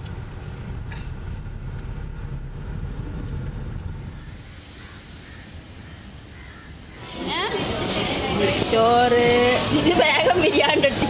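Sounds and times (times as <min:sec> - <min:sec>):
car road noise rumble: 0:00.0 - 0:10.2
outdoor background hiss: 0:00.0 - 0:11.0.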